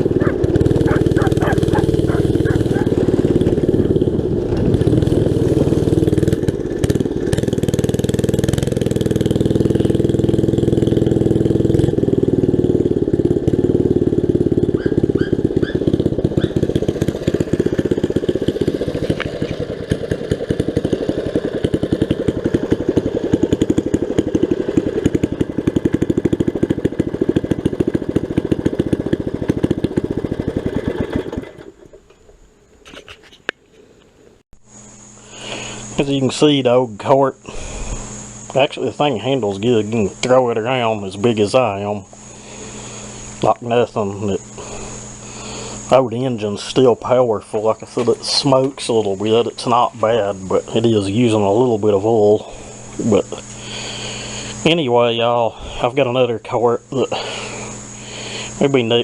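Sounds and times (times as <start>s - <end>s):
go-kart engine running: 0.0s - 33.2s, 34.7s - 59.0s.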